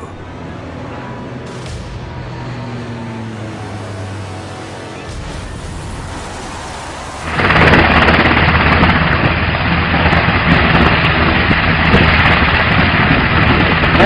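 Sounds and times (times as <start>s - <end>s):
helicopter noise: 0.0s - 14.0s
loud rushing noise: 0.0s - 14.0s.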